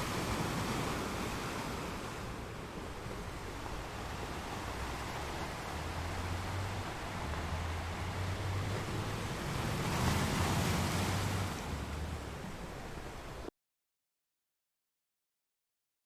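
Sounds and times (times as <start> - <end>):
sea waves washing in: 0.0 - 13.5.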